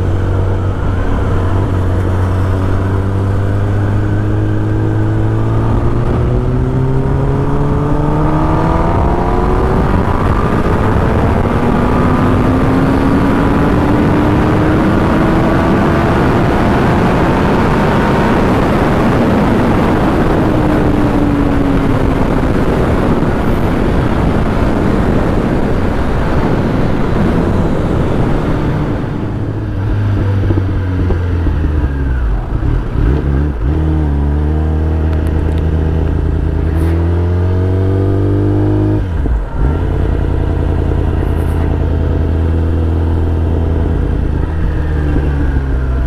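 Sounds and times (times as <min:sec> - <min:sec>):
motorcycle engine revving: 0:00.0 - 0:46.0
wind noise: 0:00.0 - 0:46.0.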